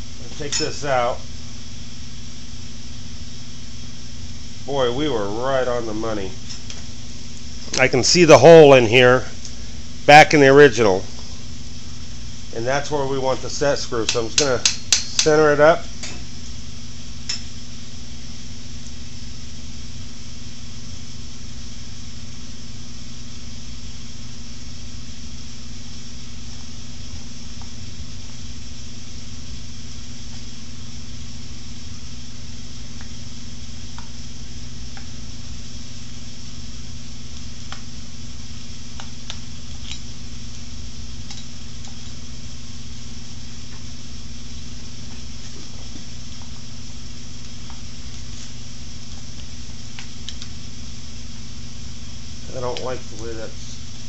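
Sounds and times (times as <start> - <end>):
workshop hum and hiss: 0.0 - 54.0.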